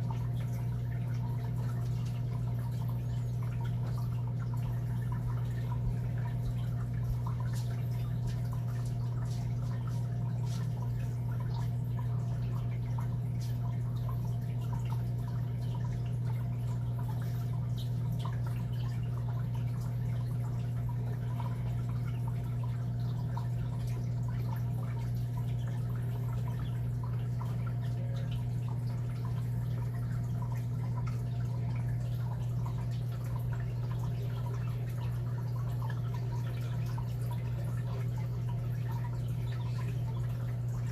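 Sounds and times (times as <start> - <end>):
faint drip-like clicks: 0.0 - 40.9
steady low hum: 0.0 - 40.9.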